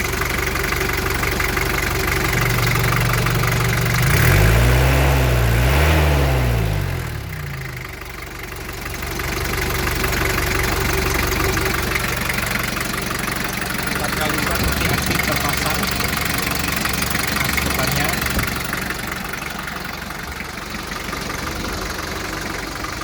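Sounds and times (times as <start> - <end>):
diesel engine idling and revving: 0.0 - 23.0.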